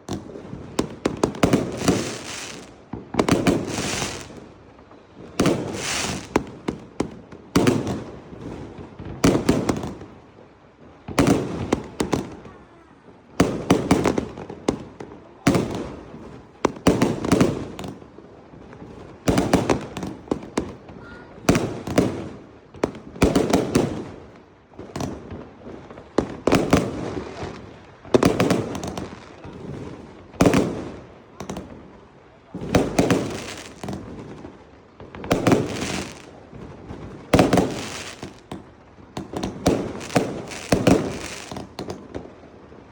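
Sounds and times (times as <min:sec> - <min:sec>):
fireworks banging and crackling: 0:00.0 - 0:42.9.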